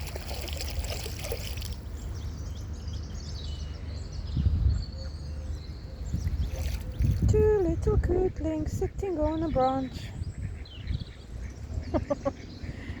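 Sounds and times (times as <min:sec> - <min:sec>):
low outdoor background rumble: 0:00.0 - 0:13.0.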